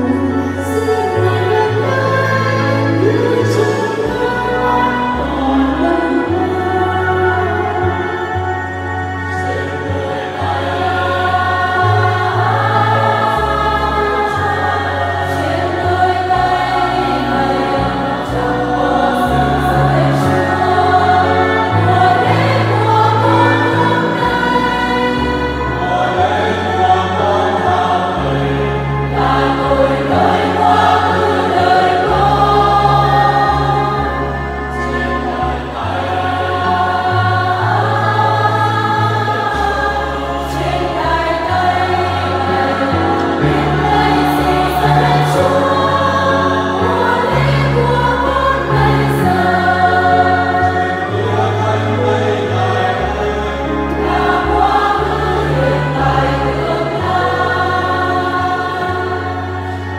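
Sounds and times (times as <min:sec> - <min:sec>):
women's choir singing a hymn: 0:00.0 - 0:59.9.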